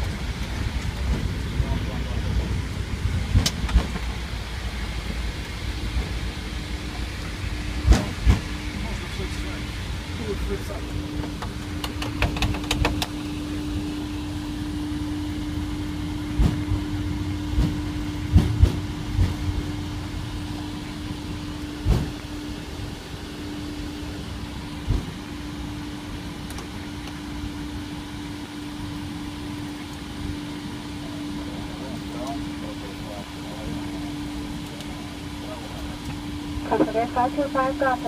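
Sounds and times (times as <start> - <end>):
airliner flight deck hum: 0.0 - 38.0.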